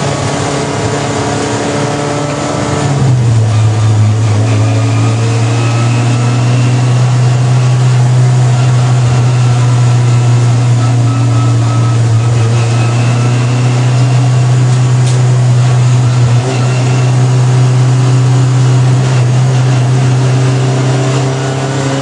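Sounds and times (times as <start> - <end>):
race car engine running: 0.0 - 22.0
road and wind noise: 0.0 - 22.0.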